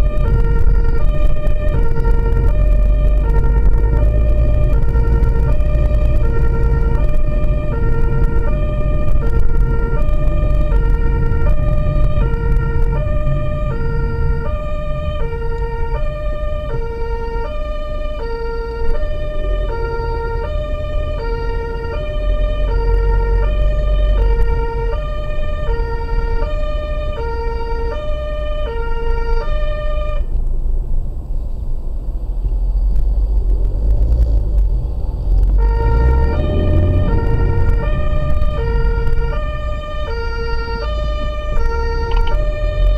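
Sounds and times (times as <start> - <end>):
two-tone emergency siren: 0.0 - 30.4, 35.3 - 42.9
engine and road rumble: 0.0 - 42.9.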